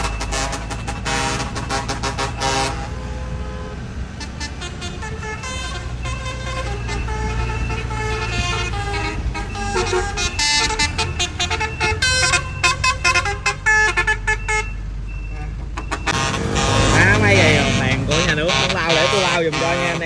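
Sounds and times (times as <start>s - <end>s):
low engine rumble: 0.0s - 20.0s
multi-tone truck horn: 0.0s - 20.0s.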